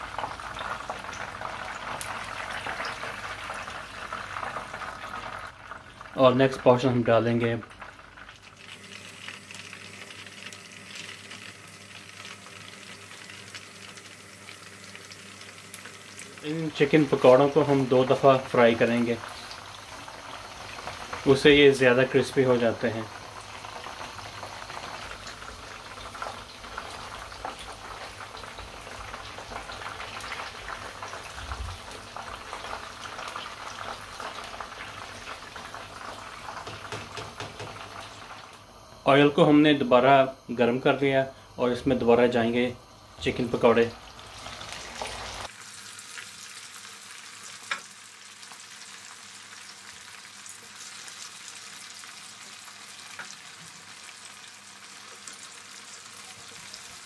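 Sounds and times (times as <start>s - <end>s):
food deep-frying in oil: 0.0s - 57.0s.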